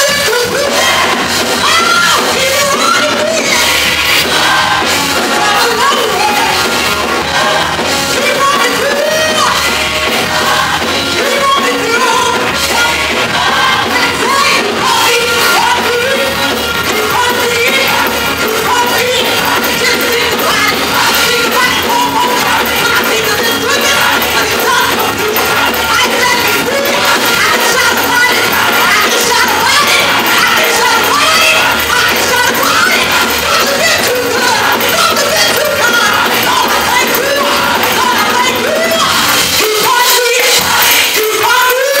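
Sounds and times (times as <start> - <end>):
gospel choir singing: 0.0 - 42.0.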